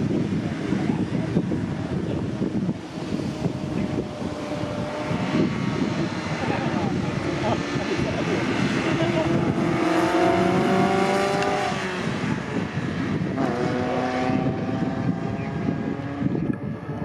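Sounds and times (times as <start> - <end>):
racing car engines passing: 0.0 - 17.0.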